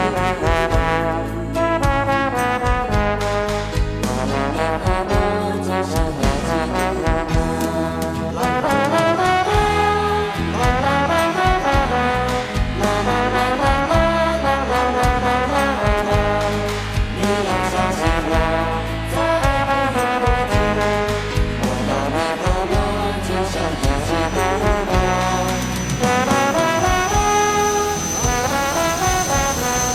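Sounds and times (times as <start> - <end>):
instrumental pop music: 0.0 - 29.9.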